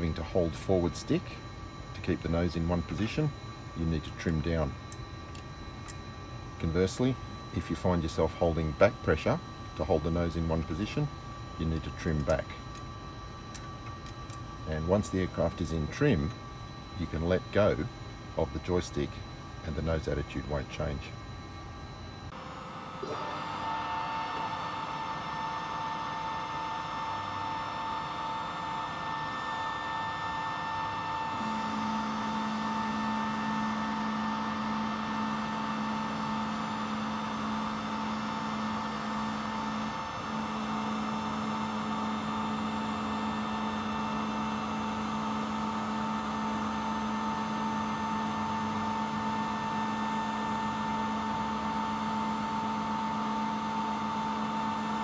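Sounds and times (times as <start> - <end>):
lower hum: 0.0 - 55.0
mechanical hum with whine: 0.0 - 55.0.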